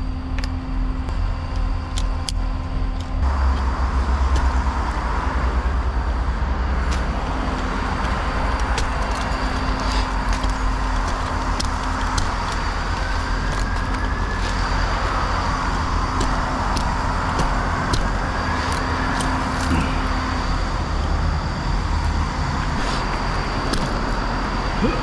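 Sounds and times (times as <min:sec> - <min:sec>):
low engine rumble: 0:00.0 - 0:25.0
vehicles passing: 0:03.2 - 0:25.0.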